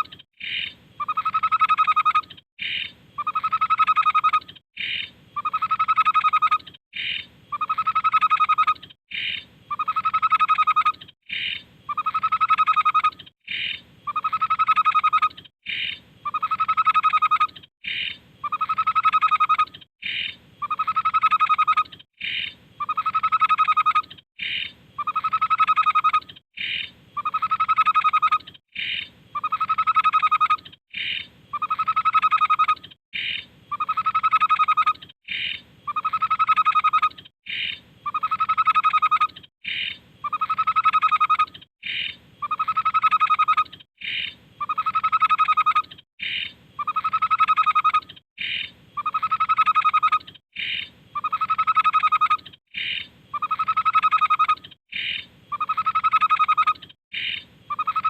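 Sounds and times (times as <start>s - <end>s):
bird song call: 0.0s - 58.0s.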